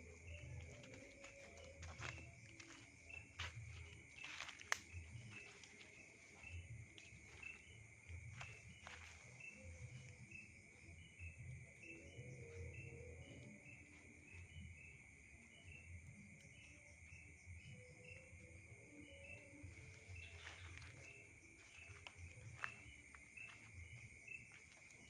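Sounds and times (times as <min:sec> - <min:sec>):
cricket trill: 0:00.0 - 0:25.0.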